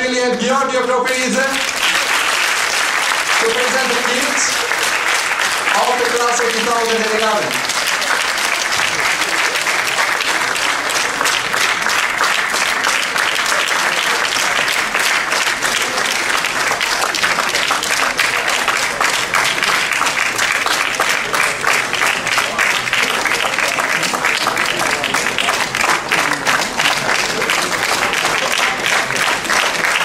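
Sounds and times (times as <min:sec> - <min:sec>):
audience applauding: 0:01.1 - 0:30.0.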